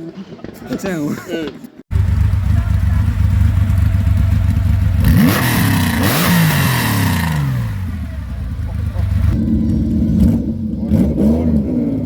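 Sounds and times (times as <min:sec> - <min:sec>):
rally car engine: 0:01.9 - 0:12.0.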